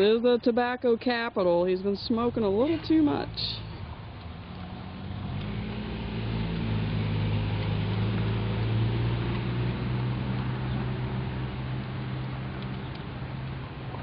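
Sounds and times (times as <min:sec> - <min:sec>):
low motor hum: 0:02.1 - 0:14.0.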